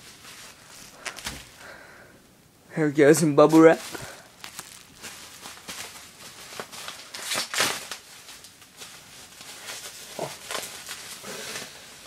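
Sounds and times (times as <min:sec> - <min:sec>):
bubble wrap crinkling: 0:00.0 - 0:01.7, 0:03.1 - 0:12.0.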